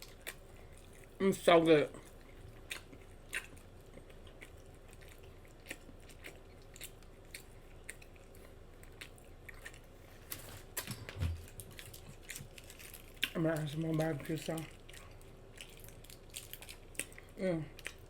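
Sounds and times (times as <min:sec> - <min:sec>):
chewing and mouth smacking: 0:00.0 - 0:18.0.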